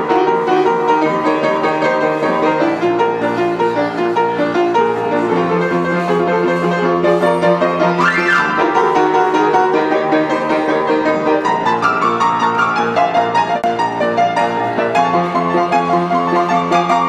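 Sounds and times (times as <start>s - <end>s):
boogie-woogie piano: 0.0s - 17.0s.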